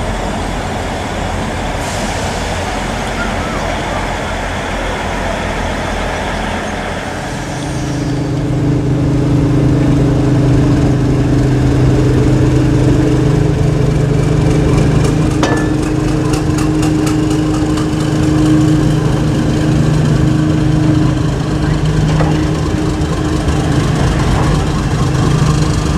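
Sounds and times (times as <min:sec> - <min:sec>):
diesel train engine running: 0:00.0 - 0:25.9.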